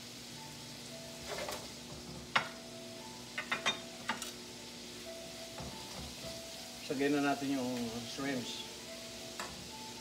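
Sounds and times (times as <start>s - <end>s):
faint sizzle: 0.0s - 10.0s.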